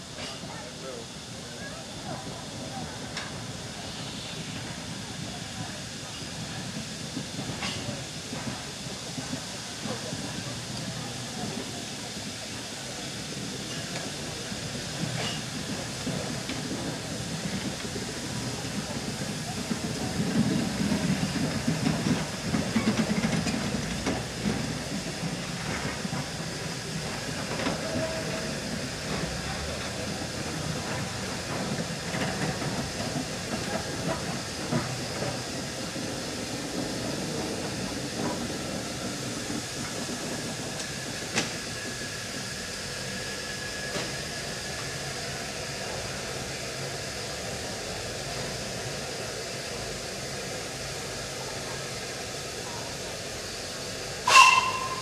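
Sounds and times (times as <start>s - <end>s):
low locomotive rumble: 0.0s - 55.0s
steam hissing: 0.0s - 55.0s.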